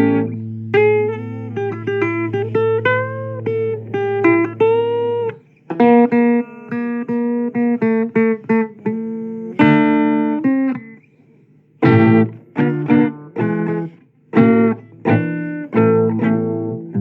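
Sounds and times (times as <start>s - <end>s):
guitar playing blues chords: 0.0s - 17.0s.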